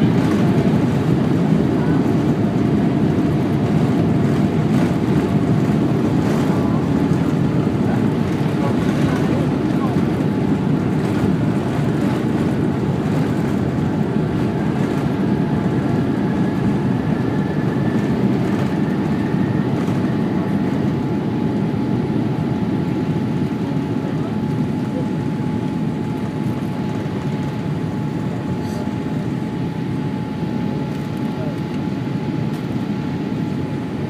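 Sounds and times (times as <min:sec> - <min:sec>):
wheels rumbling on runway: 0:00.0 - 0:29.6
jet engines roaring: 0:00.0 - 0:34.0.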